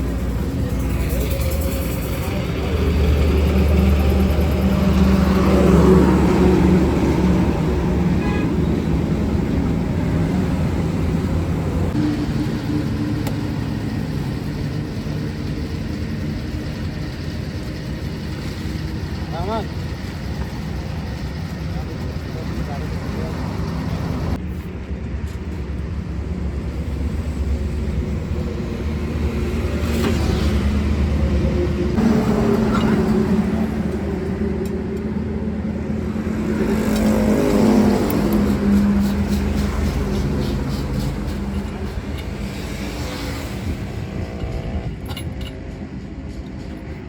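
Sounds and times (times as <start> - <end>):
low engine-like rumble: 0.0 - 47.0.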